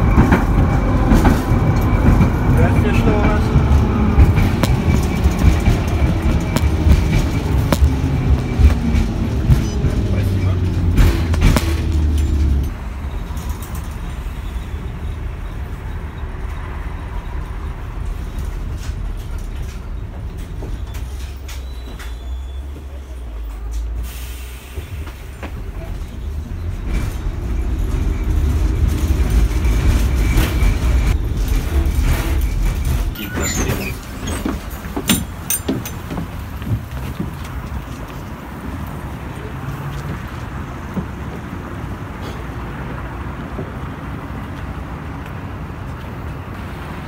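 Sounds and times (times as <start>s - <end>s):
tram wheels rumbling on rails: 0.0s - 47.0s.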